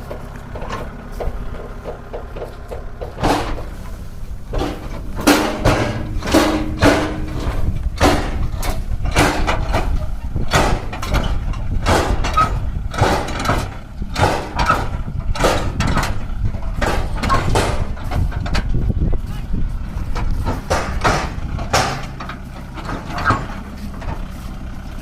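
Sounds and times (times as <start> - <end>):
clattering knocks: 0.0 - 18.9, 19.8 - 24.3
tractor engine under load: 0.0 - 25.0.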